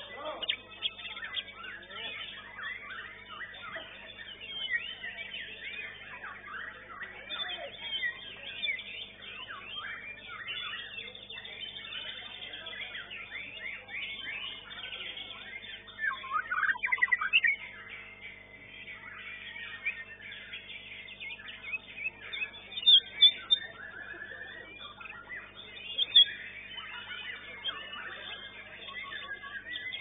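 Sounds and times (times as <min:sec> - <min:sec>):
bird singing varied whistles: 0:00.0 - 0:17.7, 0:18.3 - 0:30.0.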